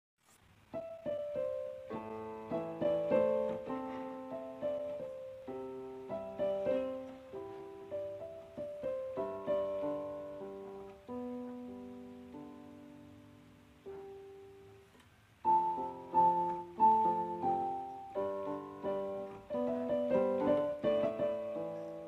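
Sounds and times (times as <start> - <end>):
gentle piano music: 0.6 - 22.0.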